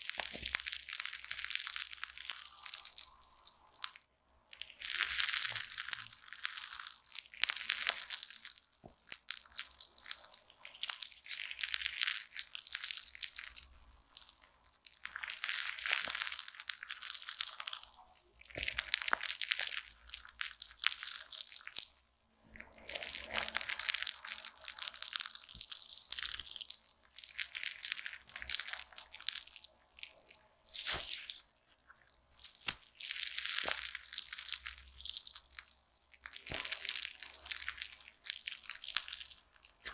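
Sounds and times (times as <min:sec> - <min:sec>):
slime squeezed crackling and popping: 0:00.0 - 0:04.0, 0:04.6 - 0:22.1, 0:22.7 - 0:39.9.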